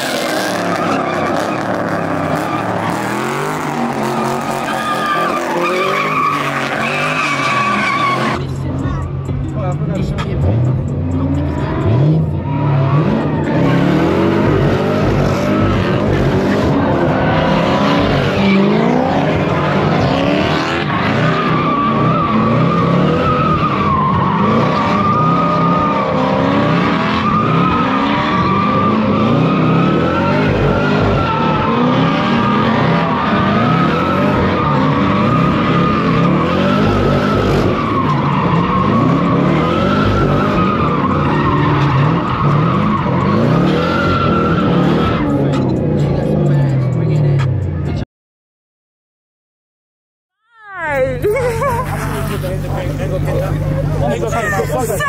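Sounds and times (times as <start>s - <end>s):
tire squeal: 0.0s - 8.5s, 10.2s - 46.7s, 50.9s - 55.0s
car engine revving: 0.0s - 48.0s, 51.0s - 55.0s.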